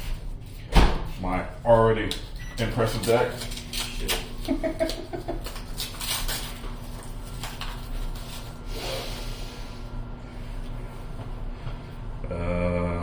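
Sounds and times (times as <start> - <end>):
faint steady hum: 1.3 - 13.0.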